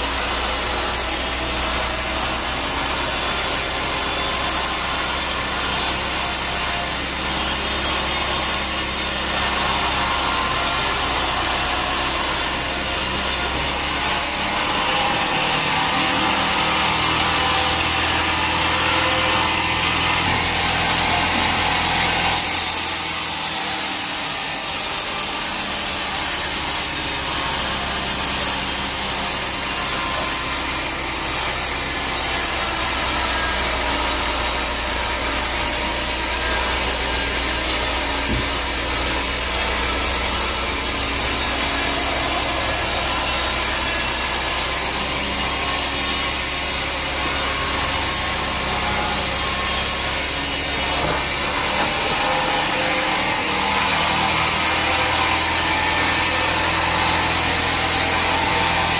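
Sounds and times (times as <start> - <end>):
band saw rasping through wood: 0.0 - 58.9.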